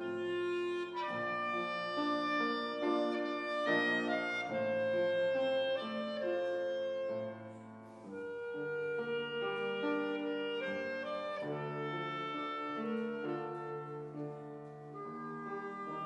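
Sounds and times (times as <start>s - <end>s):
clarinet melody: 0.0s - 16.0s
piano accompaniment: 0.0s - 16.0s.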